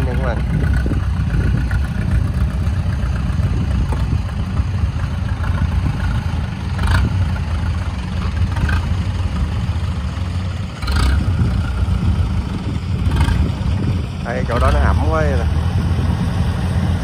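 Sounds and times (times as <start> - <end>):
tracked carrier engine running: 0.0 - 17.0.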